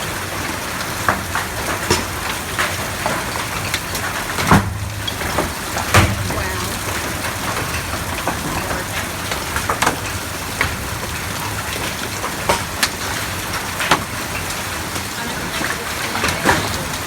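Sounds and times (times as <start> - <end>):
hail falling: 0.0 - 17.0.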